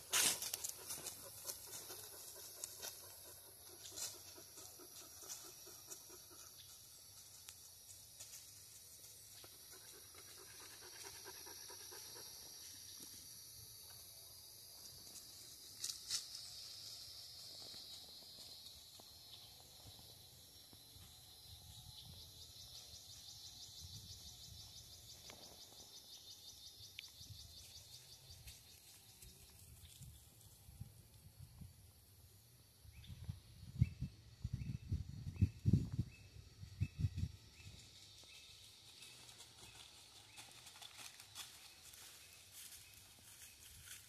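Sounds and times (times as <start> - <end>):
insects buzzing: 0.0 - 44.0.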